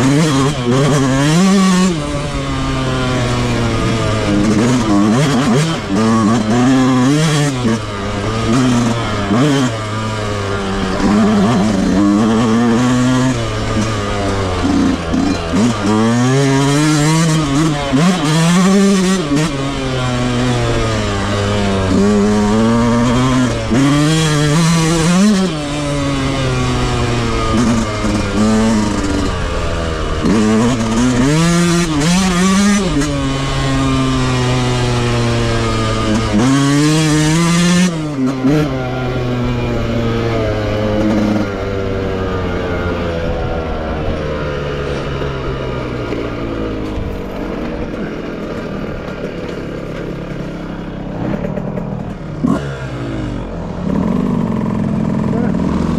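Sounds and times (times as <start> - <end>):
motocross bike revving: 0.0 - 55.9.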